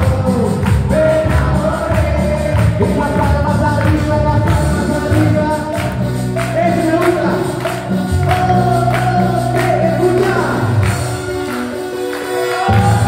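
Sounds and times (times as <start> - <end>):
music with singing and beat: 0.0 - 13.0.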